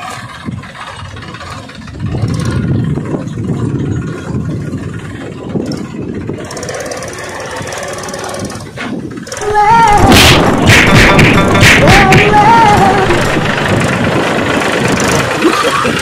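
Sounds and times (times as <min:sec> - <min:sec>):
small tractor engine running: 0:00.0 - 0:16.0.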